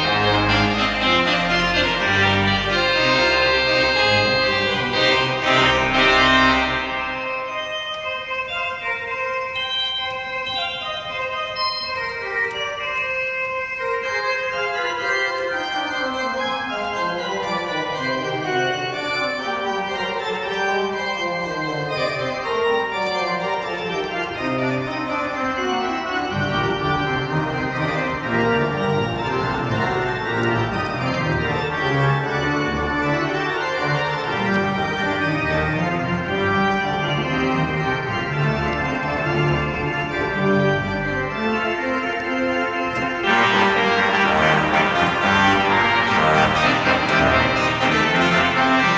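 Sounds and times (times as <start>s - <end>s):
church organ playing: 0.0s - 48.9s.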